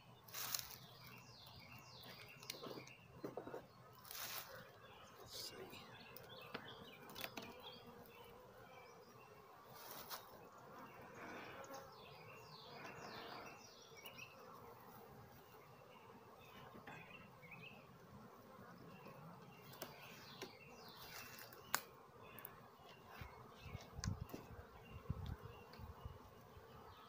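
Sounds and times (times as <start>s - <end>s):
birds chirping: 0.0s - 27.0s
honeybees buzzing: 0.0s - 27.0s.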